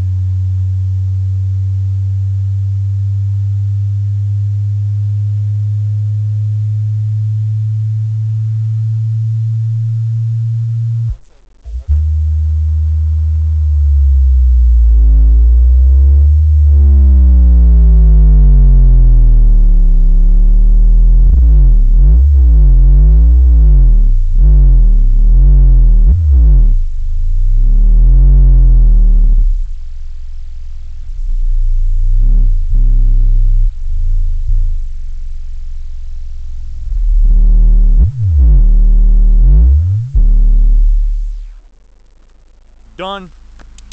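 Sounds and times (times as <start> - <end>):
bass tones through subwoofers: 0.0 - 43.9.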